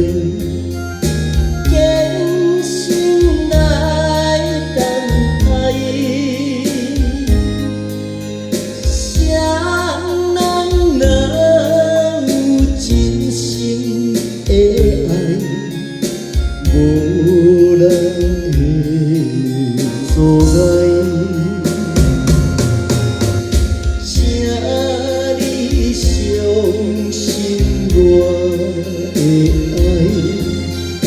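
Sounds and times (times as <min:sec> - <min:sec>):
backing track: 0:00.0 - 0:31.0
person singing a ballad: 0:00.0 - 0:31.0.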